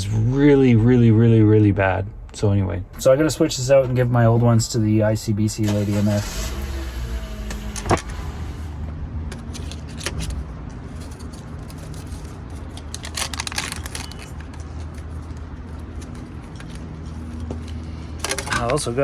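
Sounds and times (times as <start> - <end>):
vehicle engine idling: 2.9 - 19.0.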